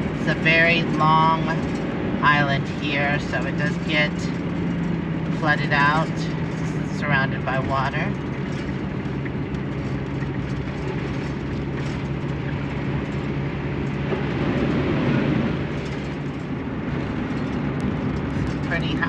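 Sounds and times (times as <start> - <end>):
engine drone: 0.0 - 19.0
tyre and road noise: 0.0 - 19.0.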